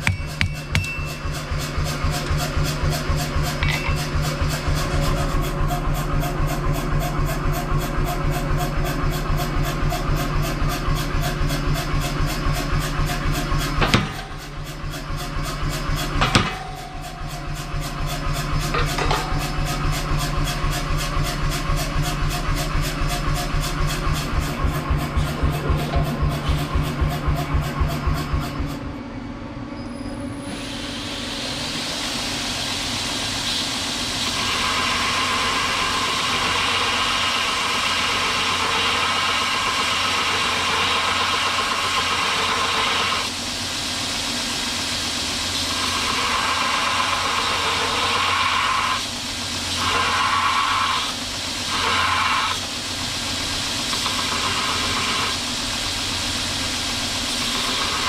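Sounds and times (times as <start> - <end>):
belt grinder grinding steel: 0.0 - 28.8, 34.2 - 43.3, 45.6 - 58.0.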